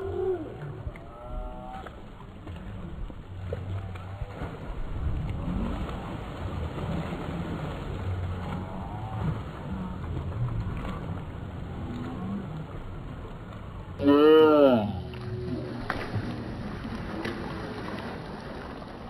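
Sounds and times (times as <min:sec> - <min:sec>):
low microphone rumble: 0:00.0 - 0:19.0
pool water splashing: 0:00.0 - 0:19.0.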